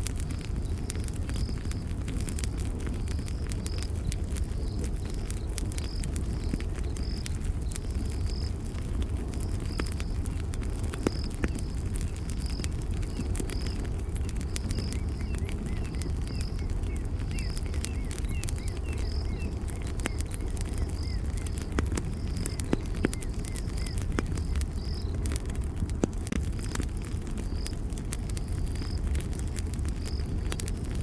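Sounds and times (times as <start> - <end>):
campfire crackling: 0.0 - 31.0
small birds chirping: 0.0 - 31.0.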